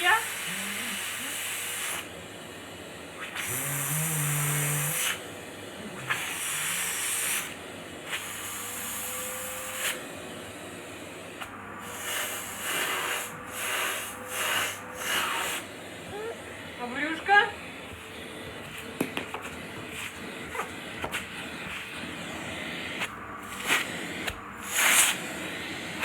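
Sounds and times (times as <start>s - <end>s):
vacuum airflow hissing: 0.0s - 26.0s
vacuum cleaner whine: 0.0s - 26.0s.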